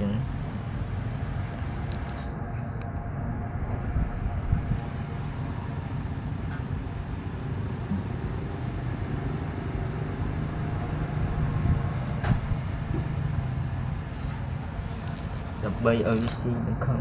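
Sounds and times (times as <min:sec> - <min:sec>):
low mechanical motor rumble: 0:00.0 - 0:17.0.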